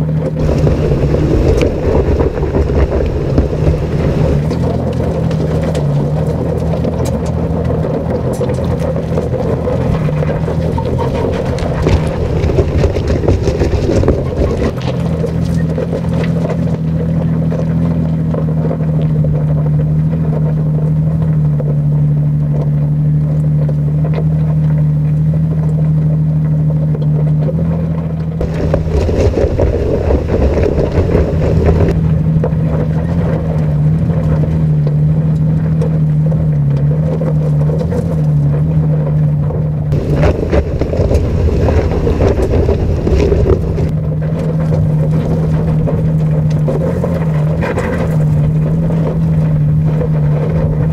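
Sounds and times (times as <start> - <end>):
engine running under load: 0.0 - 50.9
tyres crunching over gravel: 0.0 - 50.9.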